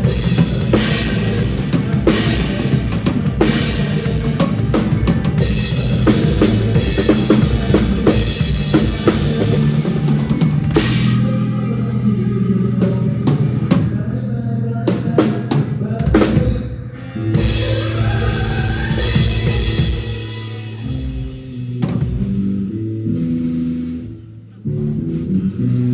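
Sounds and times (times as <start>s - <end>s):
drum kit playing: 0.0s - 14.1s, 14.9s - 24.3s
steady bass line: 0.0s - 16.6s, 17.2s - 25.9s
band music: 0.0s - 25.9s.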